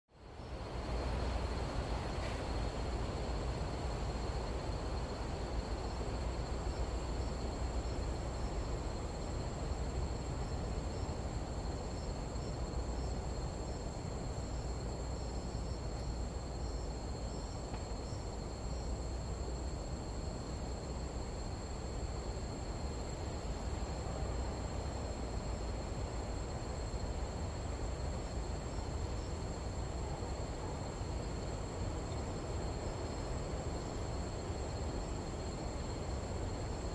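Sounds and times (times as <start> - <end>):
crickets trilling: 0.2 - 36.9.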